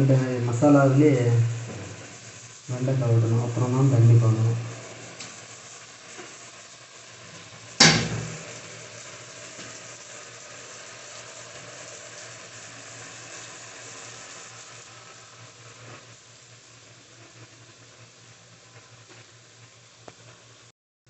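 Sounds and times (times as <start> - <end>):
food sizzling in a pot: 0.0 - 20.7.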